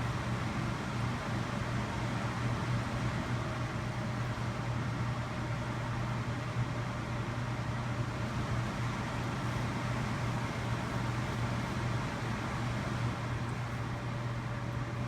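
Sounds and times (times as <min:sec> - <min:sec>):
fan air rushing: 0:00.0 - 0:05.8, 0:07.8 - 0:15.0
air cooler humming: 0:00.0 - 0:15.0.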